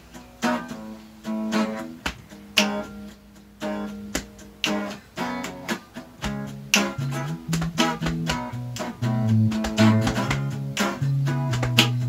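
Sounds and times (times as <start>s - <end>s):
guitar strumming chords: 0.0s - 12.0s
sharp percussive clicks: 1.5s - 12.0s.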